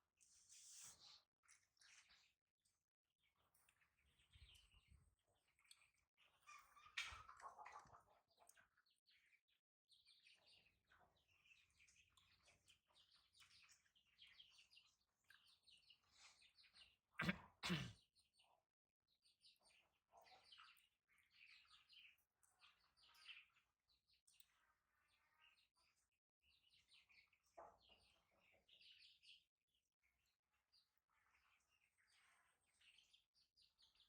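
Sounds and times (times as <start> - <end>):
faint high-pitched chirping: 0.0 - 34.0.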